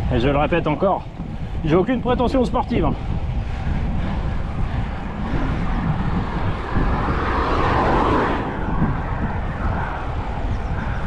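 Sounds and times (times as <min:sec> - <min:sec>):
bicycle rolling: 0:00.0 - 0:11.0
wind on microphone: 0:00.0 - 0:11.0.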